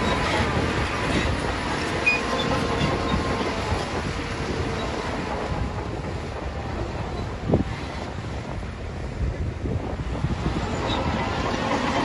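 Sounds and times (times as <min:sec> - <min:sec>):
rattle of steel tracks: 0:00.0 - 0:12.0.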